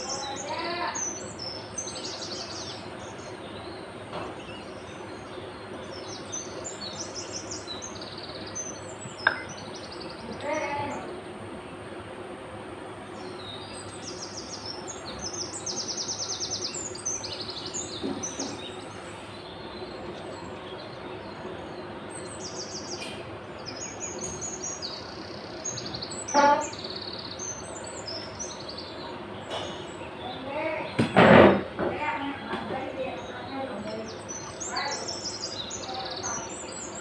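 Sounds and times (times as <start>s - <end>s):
small birds chirping: 0.0s - 37.0s
steady background hiss: 0.0s - 37.0s.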